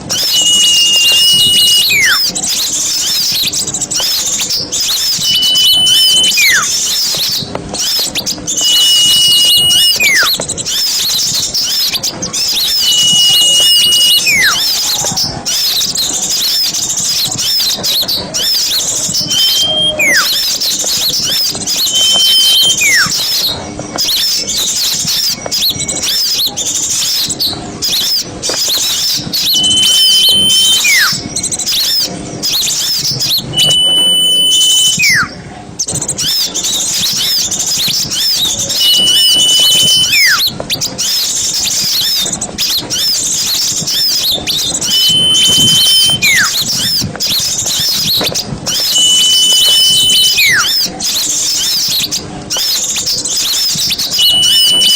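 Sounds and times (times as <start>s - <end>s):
bird whistle with falling slide: 0.0s - 54.9s
songbirds twittering: 0.0s - 54.9s.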